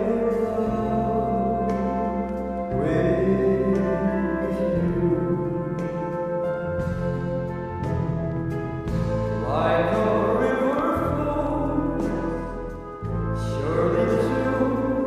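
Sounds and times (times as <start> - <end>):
old vocal record with orchestra: 0.0 - 8.0, 8.9 - 15.0.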